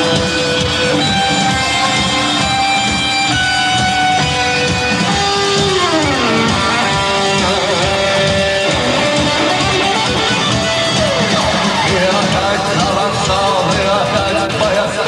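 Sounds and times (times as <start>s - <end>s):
electric lead guitar sliding: 0.0s - 15.0s
rock band instrumental: 0.0s - 15.0s.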